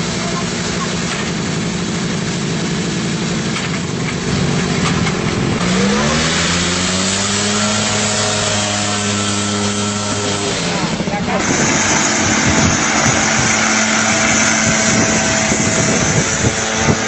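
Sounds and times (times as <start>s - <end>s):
aircraft engine revving: 0.0s - 17.0s.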